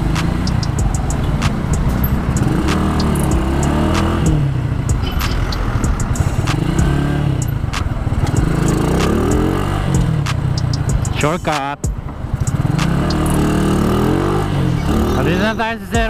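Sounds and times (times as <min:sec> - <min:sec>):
low wind rumble: 0:00.0 - 0:16.0
motorcycle engine running: 0:00.0 - 0:16.0.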